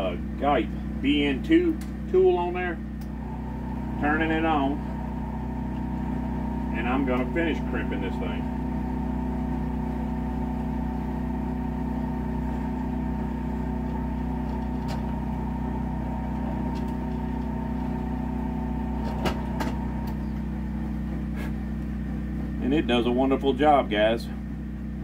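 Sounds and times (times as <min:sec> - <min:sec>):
crimping tool humming: 0:00.6 - 0:22.7.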